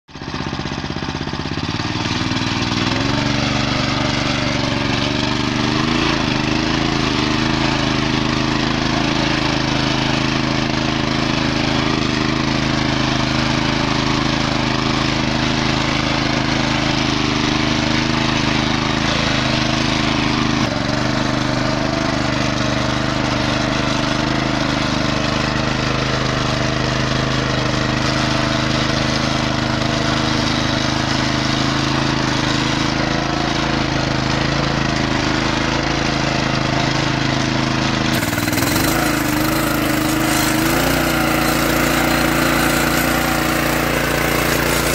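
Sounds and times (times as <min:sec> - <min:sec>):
tractor engine running under load: 0:00.1 - 0:44.9.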